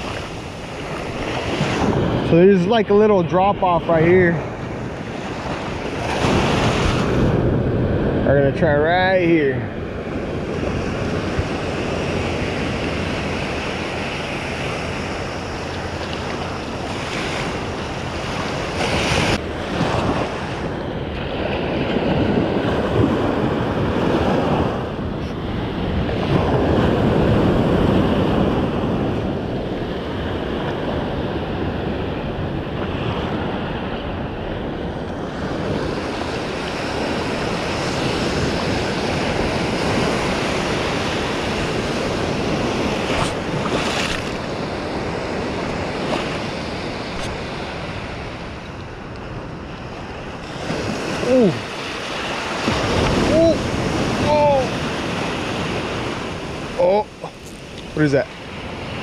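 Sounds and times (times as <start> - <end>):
ocean surf breaking: 0.0 - 59.0
wind buffeting microphone: 0.0 - 59.0.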